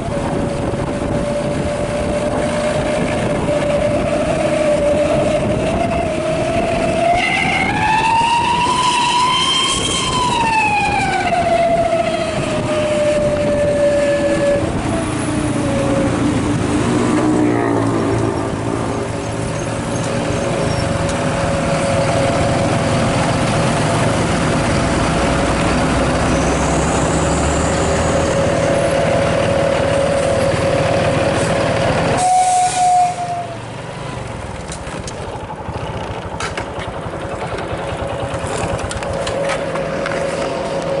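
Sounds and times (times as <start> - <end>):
howling exhaust whistle: 0.0 - 33.8, 37.9 - 41.0
diesel bus engine running: 0.0 - 41.0.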